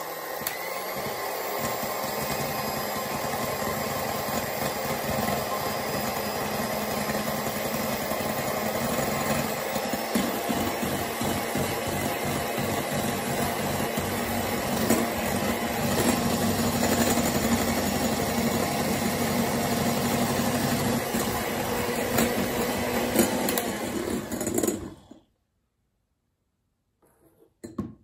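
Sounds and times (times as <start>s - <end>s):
electric hand mixer running: 0.0s - 25.2s.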